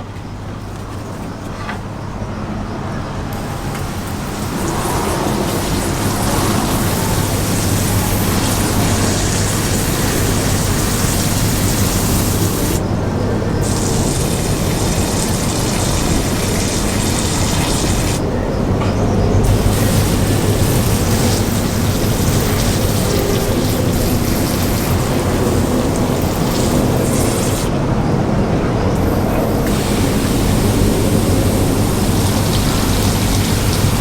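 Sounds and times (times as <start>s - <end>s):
pump humming: 3.3s - 27.7s, 29.0s - 34.0s
water spraying: 3.3s - 27.8s, 29.0s - 34.0s.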